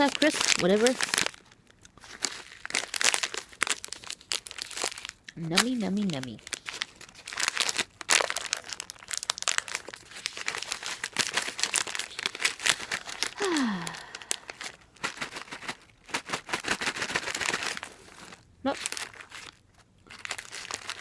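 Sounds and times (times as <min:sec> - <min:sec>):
plastic snack bag crinkling: 0:00.0 - 0:21.0.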